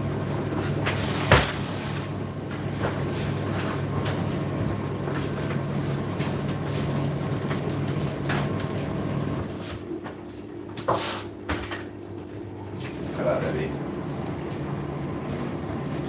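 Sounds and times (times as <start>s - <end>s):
tumble dryer drum rumbling: 0.0s - 10.3s, 11.8s - 16.0s.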